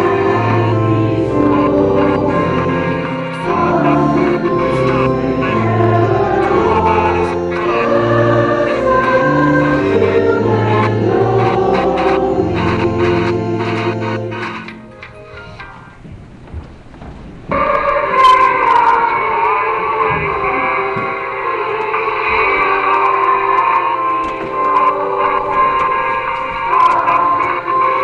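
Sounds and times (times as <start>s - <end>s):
choir singing long held notes: 0.0s - 15.6s, 17.5s - 28.0s
sustained low accompaniment: 0.0s - 28.0s.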